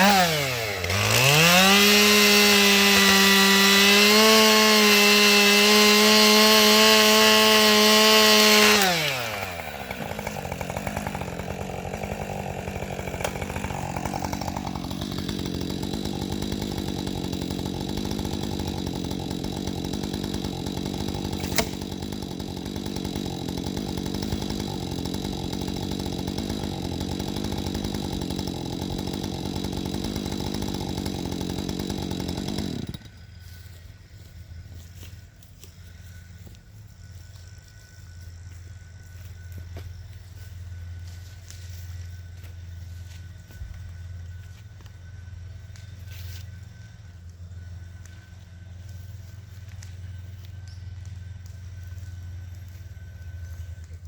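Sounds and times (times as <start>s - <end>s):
chainsaw revving and idling: 0.0s - 35.1s, 35.9s - 54.0s.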